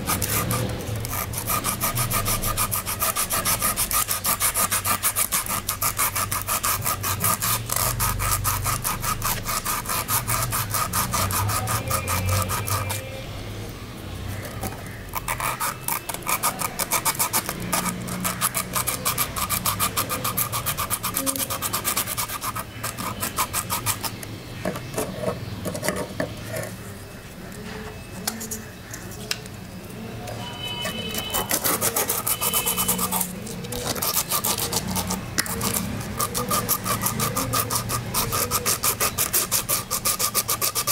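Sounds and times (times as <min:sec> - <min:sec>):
scraping rust off metal blade: 0:00.0 - 0:13.1, 0:14.4 - 0:26.8, 0:30.8 - 0:40.9.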